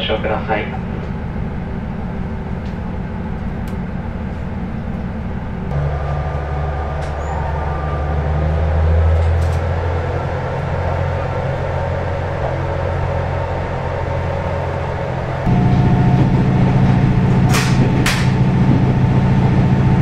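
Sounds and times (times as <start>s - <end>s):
diesel railcar engine: 0.0s - 20.0s.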